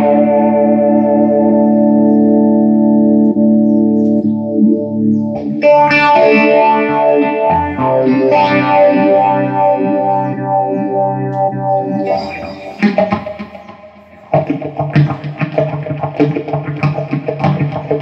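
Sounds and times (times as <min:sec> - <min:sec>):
electric guitar chords: 0:00.0 - 0:18.0.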